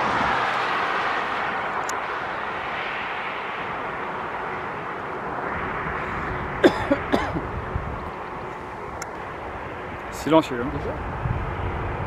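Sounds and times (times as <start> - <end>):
jet airliner rushing: 0.0 - 12.0.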